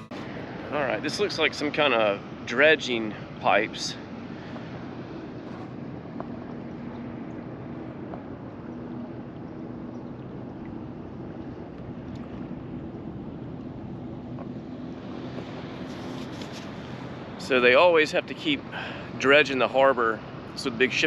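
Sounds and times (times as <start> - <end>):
distant motor humming: 0.0 - 21.0
water: 0.0 - 21.0.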